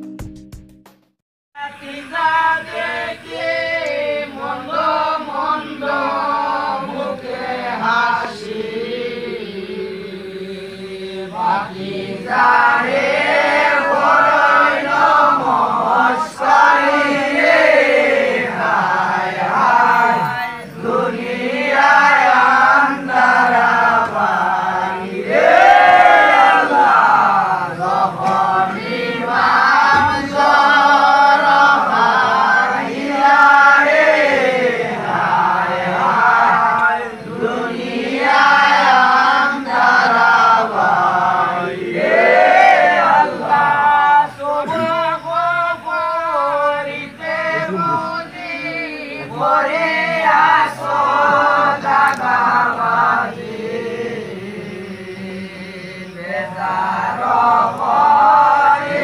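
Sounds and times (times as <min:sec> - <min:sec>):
group chanting and singing: 0:01.6 - 0:59.0.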